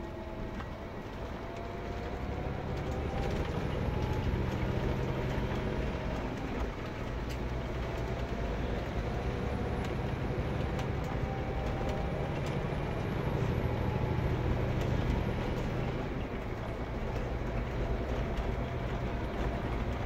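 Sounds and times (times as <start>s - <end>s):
bus diesel engine rumble: 0.0s - 20.0s.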